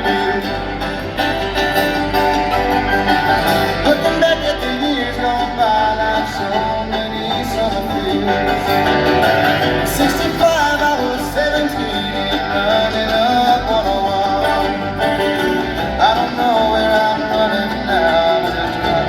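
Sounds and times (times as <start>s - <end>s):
bluegrass band playing: 0.0s - 19.0s.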